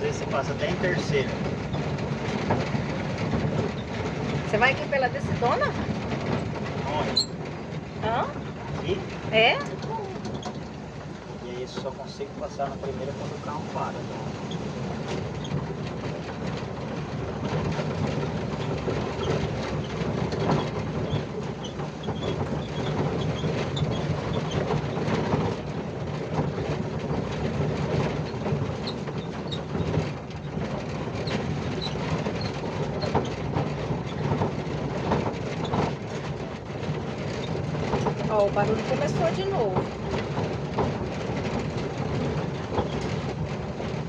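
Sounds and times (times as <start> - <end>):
body rattling and knocking: 0.0 - 44.0
van engine and road rumble: 0.0 - 44.0.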